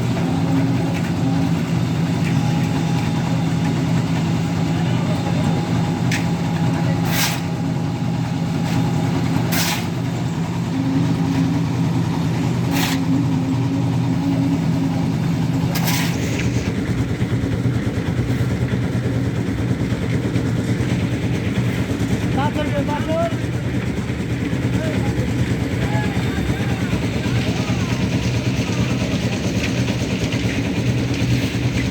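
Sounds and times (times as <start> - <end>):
engine running steadily: 0.0 - 31.9.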